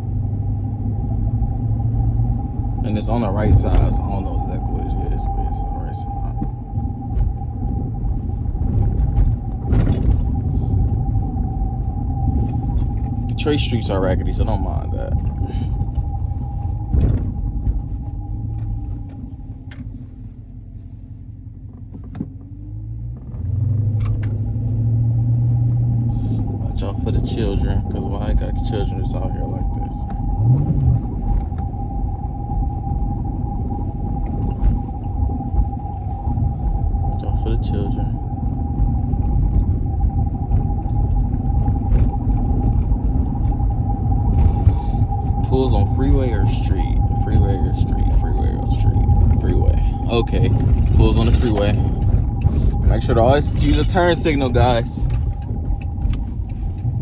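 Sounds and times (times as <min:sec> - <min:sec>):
thin steady whine: 0:00.0 - 0:21.7, 0:23.9 - 0:57.0
car engine and road rumble: 0:00.0 - 0:57.0.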